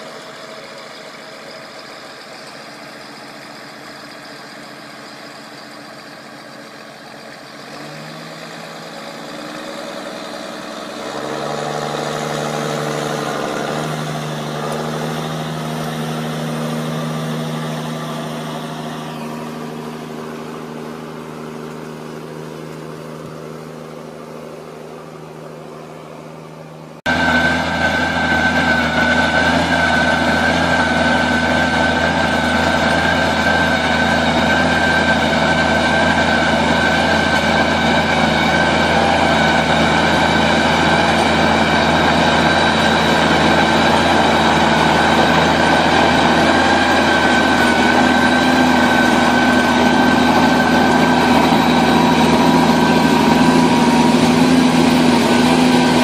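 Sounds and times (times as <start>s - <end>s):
machine high whine: 0.0s - 24.1s, 26.3s - 56.0s
farm machinery engine humming: 0.0s - 56.0s
deep machine drone: 5.2s - 56.0s.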